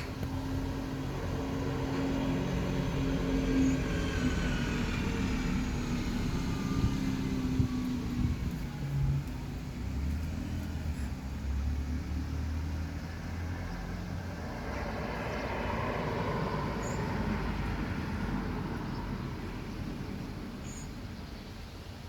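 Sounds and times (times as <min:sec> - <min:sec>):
heavy wind blowing: 0:00.0 - 0:11.4, 0:13.0 - 0:21.2.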